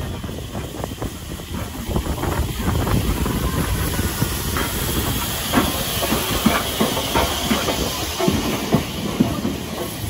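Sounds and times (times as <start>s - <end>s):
steam hissing: 0.0s - 10.0s
train clanking and knocking: 0.0s - 10.0s.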